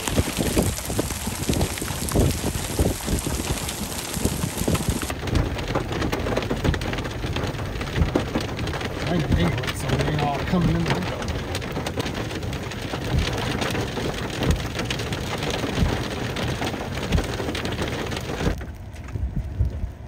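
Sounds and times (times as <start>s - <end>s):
hail pattering on ground: 0.0s - 20.0s.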